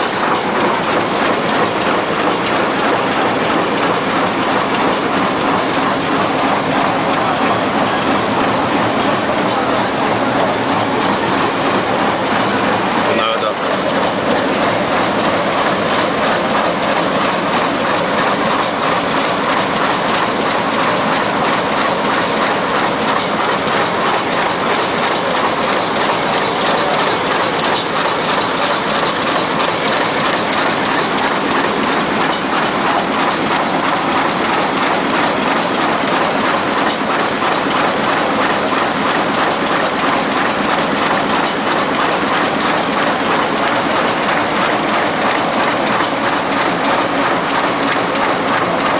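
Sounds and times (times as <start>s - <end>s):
sewing machine mechanical clatter: 0.0s - 48.9s.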